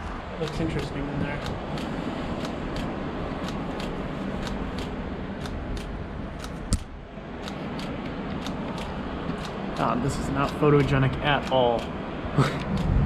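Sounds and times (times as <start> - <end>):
vehicle interior rumble and hiss: 0.0 - 13.0
light regular ticking: 0.4 - 11.9
sharp click: 0.4 - 11.9.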